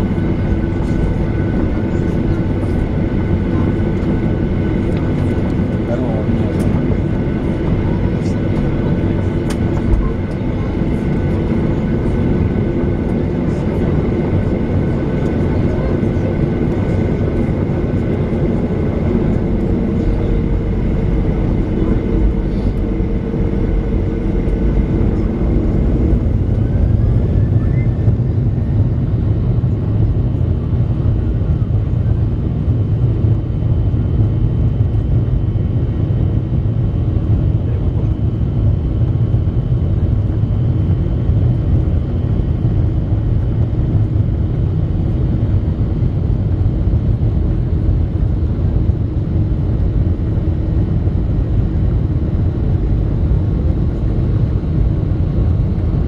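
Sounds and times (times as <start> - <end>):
jet engines roaring during takeoff: 0.0 - 56.0.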